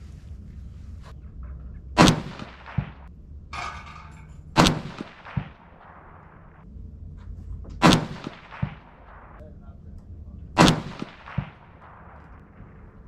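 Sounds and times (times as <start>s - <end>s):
fainter crack: 0.0s - 13.0s
rifle shots: 1.3s - 13.0s.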